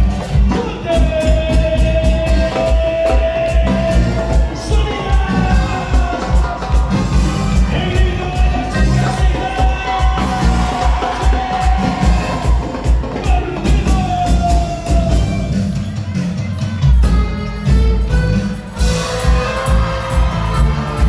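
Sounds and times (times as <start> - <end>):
heavy bass beat: 0.0 - 15.9, 17.0 - 21.0.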